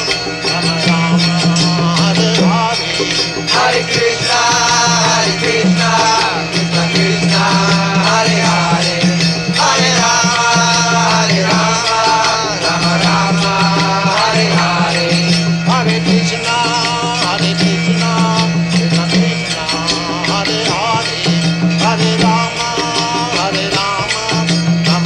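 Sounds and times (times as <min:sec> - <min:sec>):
percussion: 0:00.0 - 0:25.0
voices singing devotional chant: 0:00.0 - 0:25.0.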